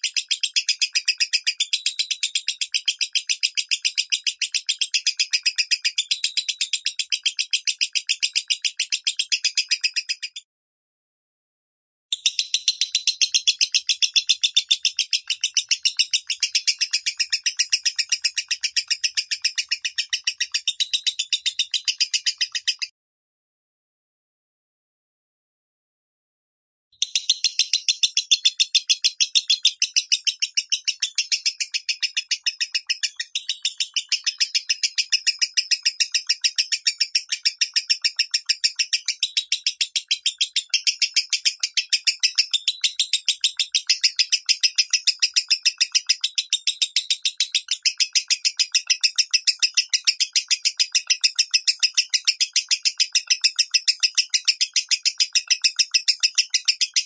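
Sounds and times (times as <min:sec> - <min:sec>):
bird high sharp chirps: 0:00.0 - 0:10.4, 0:12.1 - 0:22.9, 0:27.0 - 0:57.0.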